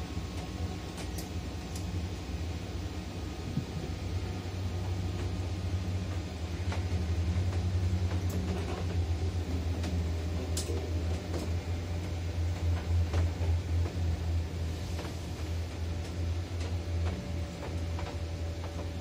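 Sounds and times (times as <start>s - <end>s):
low machine hum and rumble: 0.0s - 19.0s.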